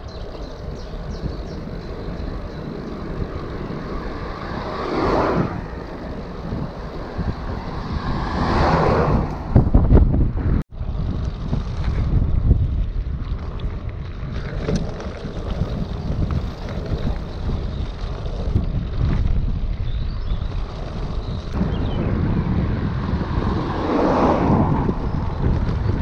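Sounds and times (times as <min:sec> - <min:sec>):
low rough rumble: 0:00.0 - 0:26.0
wind on microphone: 0:00.0 - 0:26.0.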